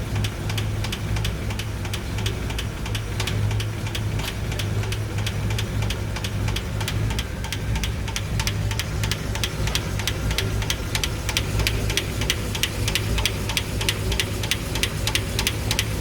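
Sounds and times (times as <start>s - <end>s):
low engine hum: 0.0s - 16.0s
valve train ticking rapidly: 0.0s - 16.0s.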